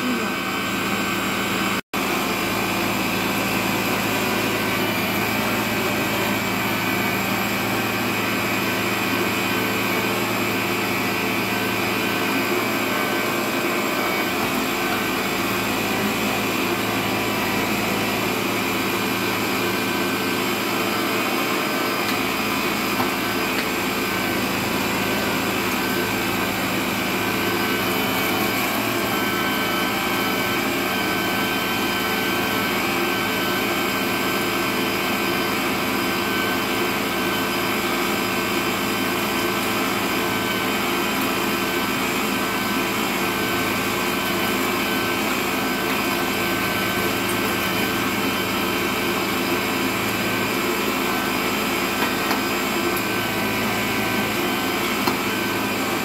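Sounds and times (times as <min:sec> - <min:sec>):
stand mixer grinding meat: 0:00.0 - 0:56.0.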